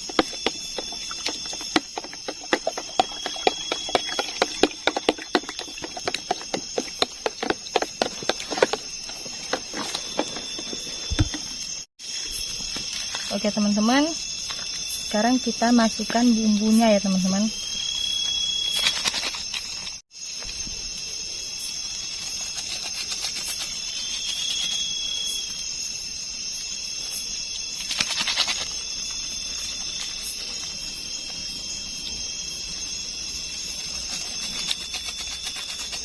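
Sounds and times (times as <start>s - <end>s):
forest insects trilling: 0.0s - 36.0s.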